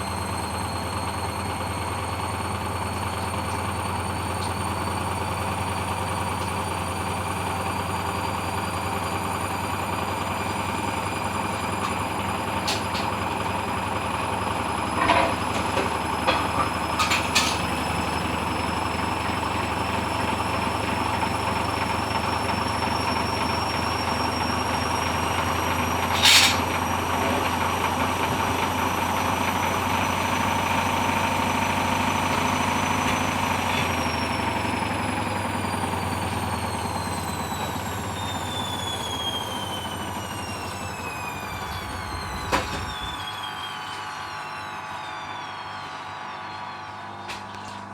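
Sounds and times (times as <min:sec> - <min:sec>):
washing machine spinning hum: 0:00.0 - 0:47.9.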